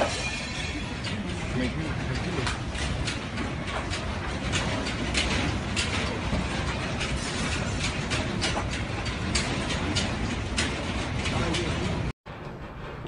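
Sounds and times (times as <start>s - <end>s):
objects rattling: 0.0s - 12.1s.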